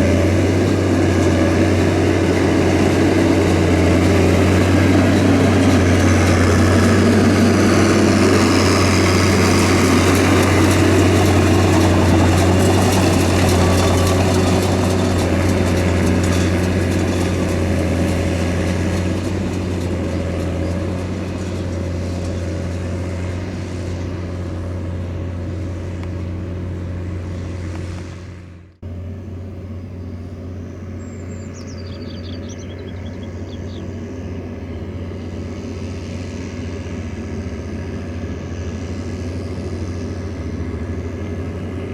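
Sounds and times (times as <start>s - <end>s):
diesel engine running under load: 0.0s - 41.9s.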